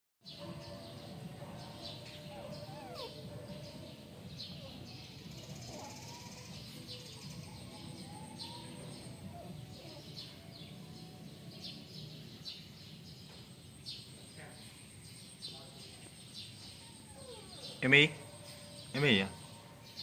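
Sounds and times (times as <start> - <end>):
small birds chirping: 0.3 - 20.0.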